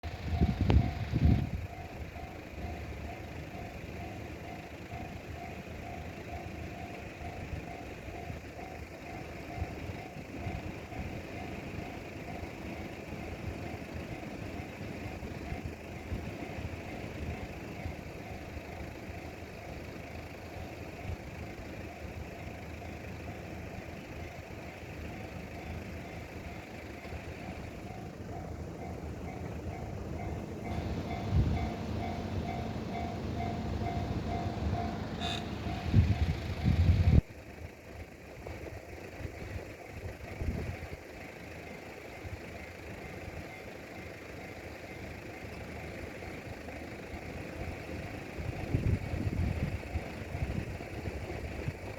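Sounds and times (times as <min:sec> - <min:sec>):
level crossing warning bell: 0:00.0 - 0:38.2, 0:39.4 - 0:51.9.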